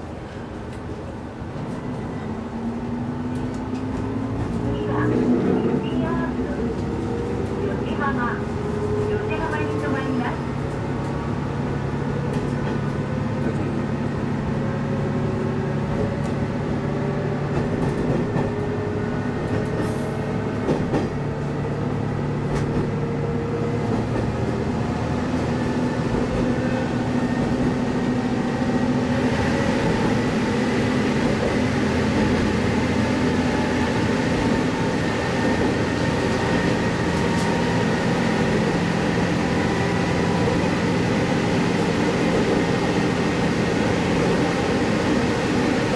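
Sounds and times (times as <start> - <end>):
diesel railcar engine: 0.0 - 45.9.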